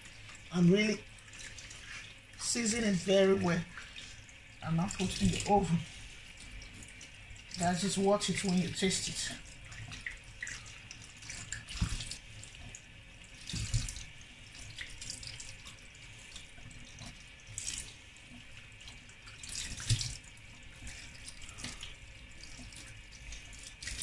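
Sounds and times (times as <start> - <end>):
tap water running into sink: 0.0 - 24.0.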